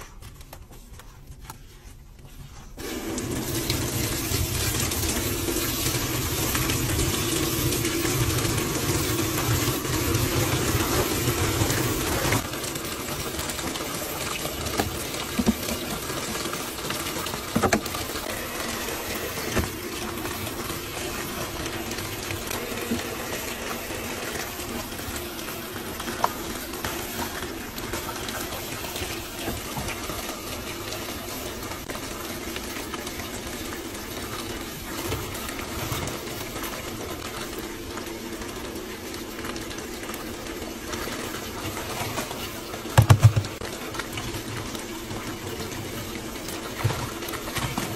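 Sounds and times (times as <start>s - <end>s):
water pouring into washing machine: 2.8s - 47.9s.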